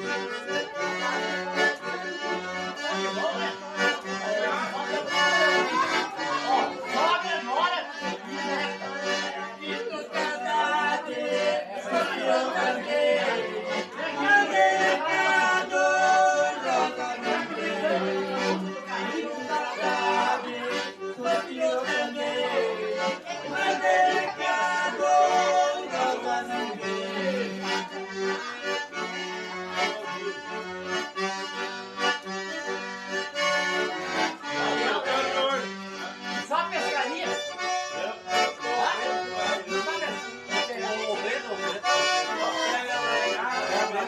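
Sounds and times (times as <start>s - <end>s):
accordion playing: 0.0s - 44.0s.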